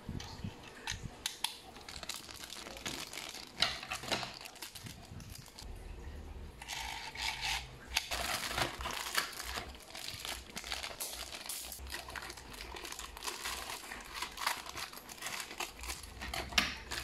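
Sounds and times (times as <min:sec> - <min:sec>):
scissors snipping plastic bag: 0:01.2 - 0:05.6, 0:06.7 - 0:17.0
plastic bags crinkling: 0:01.5 - 0:05.7, 0:06.7 - 0:17.0.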